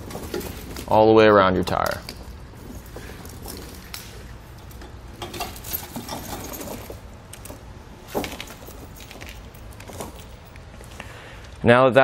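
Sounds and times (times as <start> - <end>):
chain clanking: 0.0 - 1.0, 1.7 - 11.0
tire chains clinking and rattling: 0.0 - 11.1.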